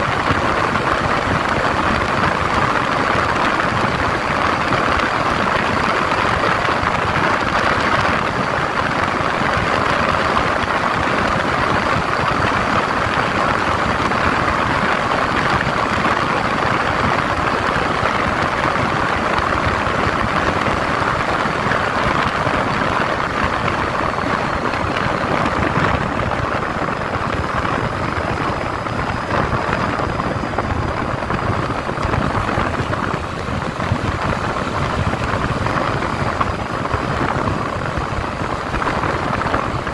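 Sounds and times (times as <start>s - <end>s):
road noise: 0.0s - 39.9s
wind rush: 0.0s - 39.9s.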